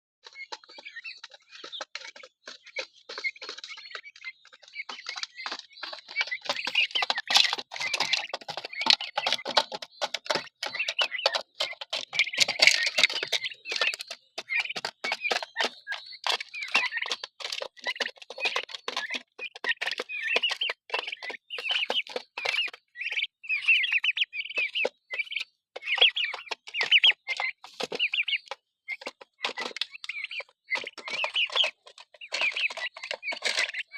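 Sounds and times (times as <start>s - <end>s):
beaks pecking at feed: 0.2s - 33.9s
turkey poults peeping: 0.2s - 33.9s.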